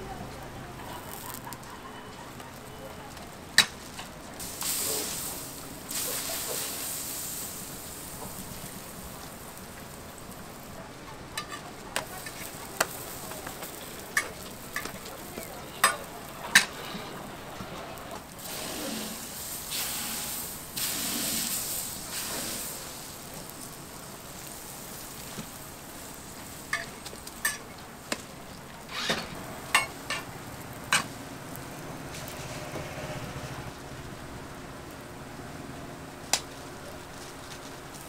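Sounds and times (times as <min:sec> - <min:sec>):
food sizzling on griddle: 0:00.6 - 0:38.0.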